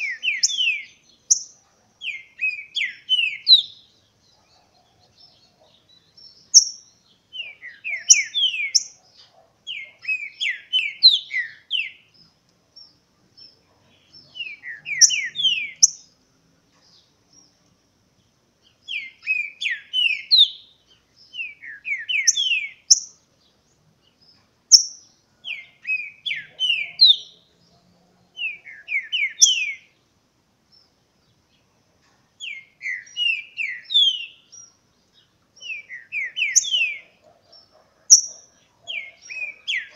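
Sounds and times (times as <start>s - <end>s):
birds singing whistled phrases: 0.0s - 16.2s, 18.6s - 23.3s, 24.1s - 27.5s, 28.4s - 30.0s, 32.4s - 39.9s.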